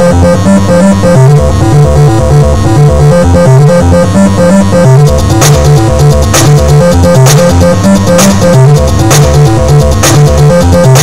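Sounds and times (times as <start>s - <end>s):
electronic synth music with beat: 0.0s - 11.0s.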